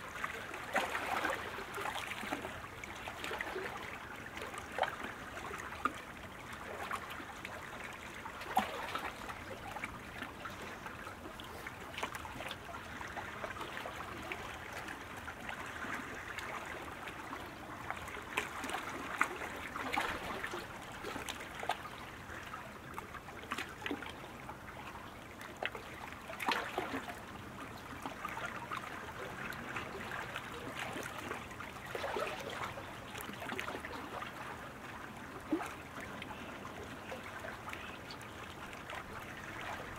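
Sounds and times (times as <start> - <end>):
rushing trickling water: 0.0 - 39.9.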